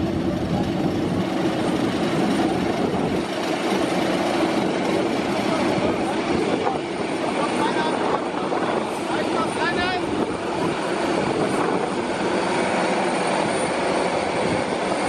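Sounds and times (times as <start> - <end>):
jet aircraft drone: 0.0 - 15.0.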